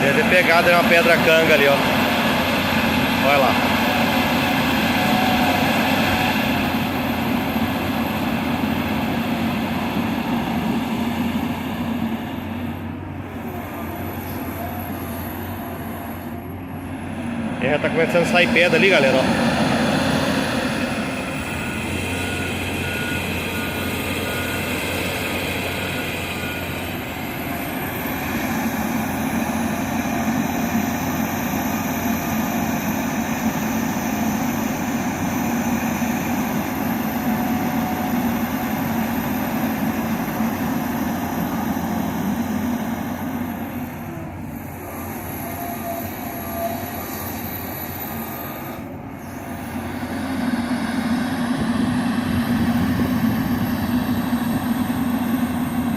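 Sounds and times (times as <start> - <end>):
excavator engine droning: 0.0 - 55.9.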